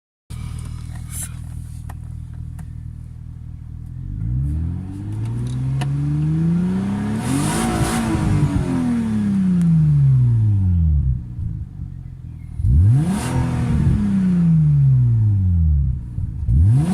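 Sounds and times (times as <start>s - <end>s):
car engine idling and revving: 0.3s - 16.9s.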